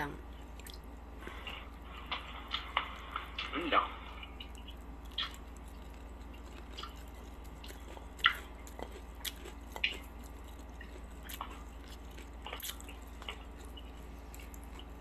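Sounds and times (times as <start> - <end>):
person chewing crispy food: 0.4 - 15.0.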